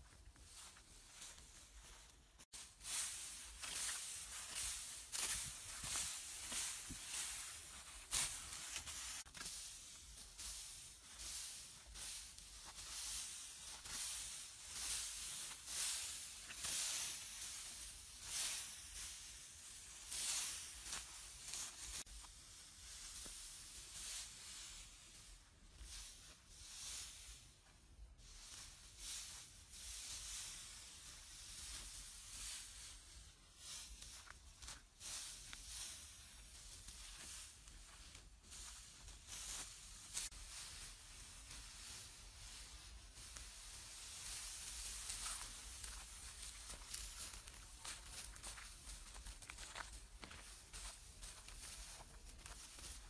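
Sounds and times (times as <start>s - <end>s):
dry straw rustling when raked: 0.0s - 53.0s.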